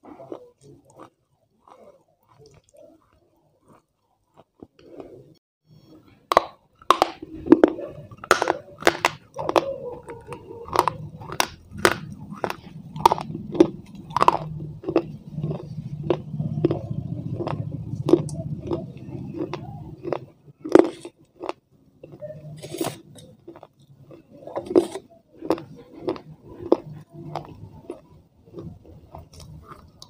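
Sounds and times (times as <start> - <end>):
chewing crunchy food: 0.0 - 5.4, 6.3 - 30.0.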